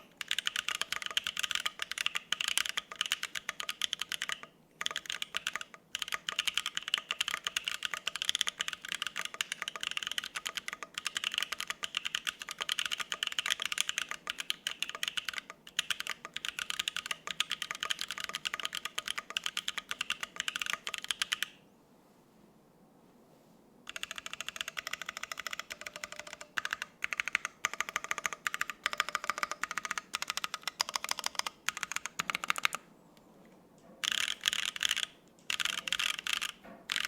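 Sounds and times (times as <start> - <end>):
typing on mechanical keyboard: 0.0 - 21.6, 23.9 - 32.8, 34.0 - 37.0.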